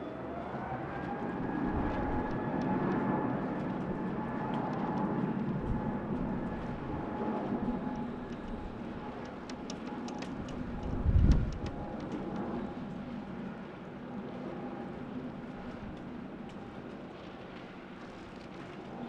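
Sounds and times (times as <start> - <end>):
jet engine fan whine: 0.0 - 19.0
jet engine rumble: 0.0 - 19.0.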